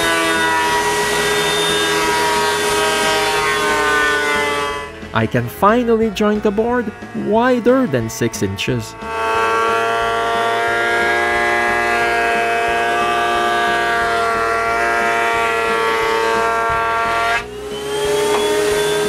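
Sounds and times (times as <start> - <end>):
jointer planing wood: 0.0 - 19.0.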